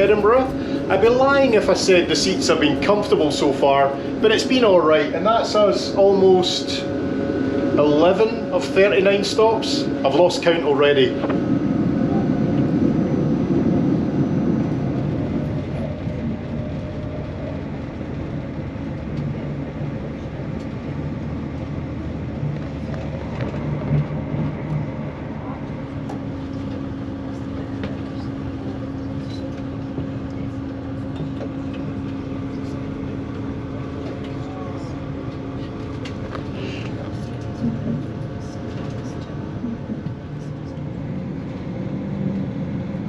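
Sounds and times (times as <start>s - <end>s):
steady hum: 0.0s - 43.0s
train rumbling on track: 0.0s - 43.0s.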